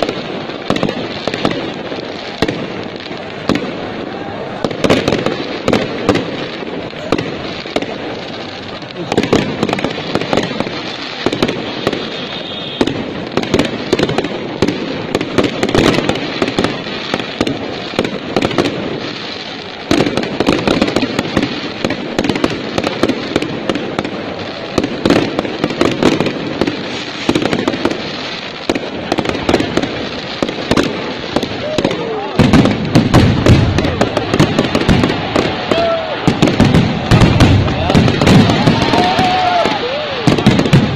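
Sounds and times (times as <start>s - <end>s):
crackling hiss: 0.0s - 40.9s
fireworks popping and banging: 0.0s - 40.9s.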